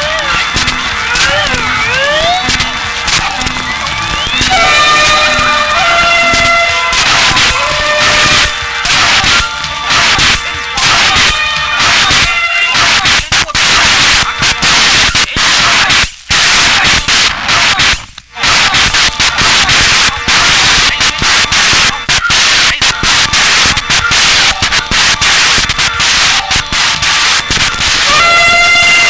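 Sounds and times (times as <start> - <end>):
stuttering turntable static hiss: 0.0 - 29.0.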